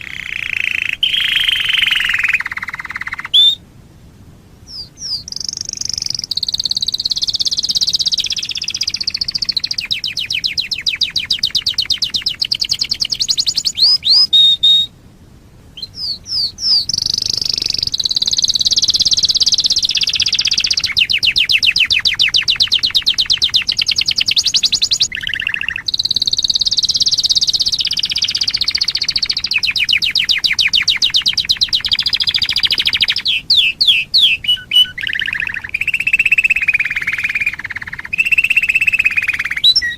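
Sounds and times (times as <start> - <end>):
canary singing trills: 0.0 - 3.6, 4.6 - 14.9, 15.8 - 39.9.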